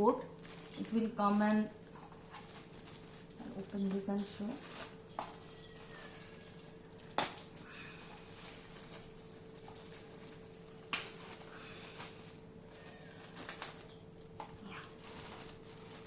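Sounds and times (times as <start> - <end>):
faint steady hum: 0.0 - 16.0
packaging rustling: 0.1 - 16.0.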